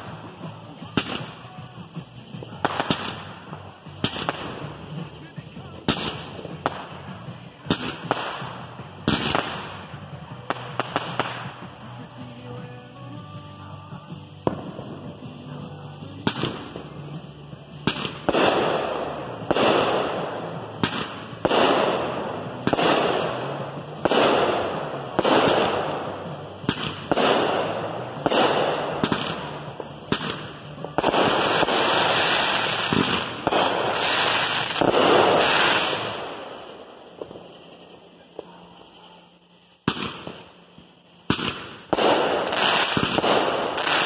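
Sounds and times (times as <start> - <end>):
fireworks bangs: 0.0 - 44.0.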